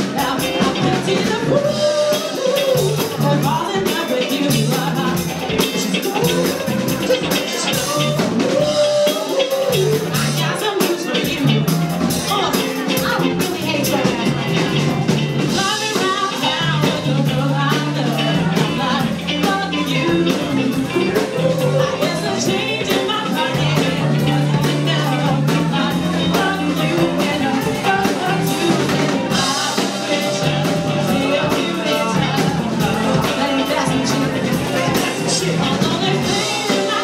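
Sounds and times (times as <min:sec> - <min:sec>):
drum kit: 0:00.0 - 0:37.0
guitars: 0:00.0 - 0:37.0
held bass notes: 0:00.0 - 0:37.0
keyboard: 0:00.0 - 0:37.0
person singing: 0:00.0 - 0:37.0.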